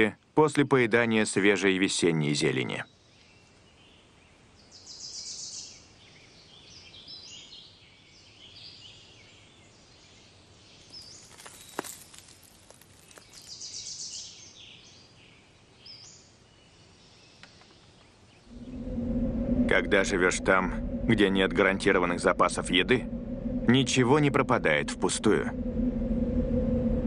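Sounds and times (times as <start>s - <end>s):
songbirds chirping and trilling: 0.0s - 12.0s, 12.9s - 24.3s.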